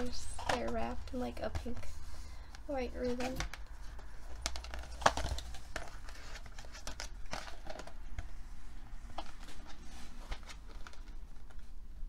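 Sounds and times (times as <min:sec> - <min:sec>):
paper wrapping rustling: 0:00.0 - 0:12.0.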